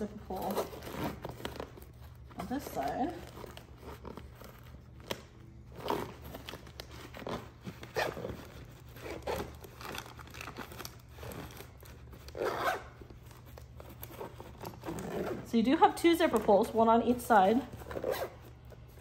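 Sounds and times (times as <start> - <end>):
zipper rasping: 0.0 - 16.5, 17.6 - 19.0
fabric and foil crinkling: 0.0 - 19.0.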